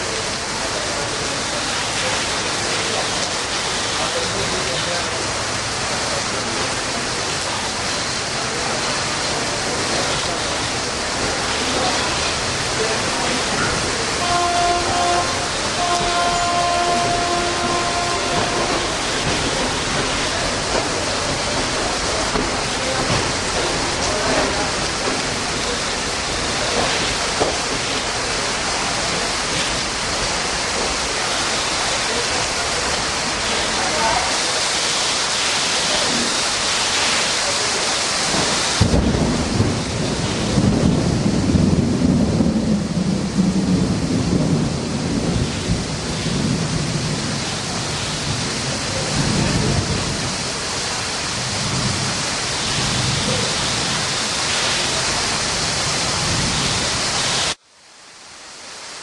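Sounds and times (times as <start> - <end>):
deep loud rumbling noise: 0.0 - 34.4, 38.2 - 57.2
heavy rain falling: 0.0 - 59.0.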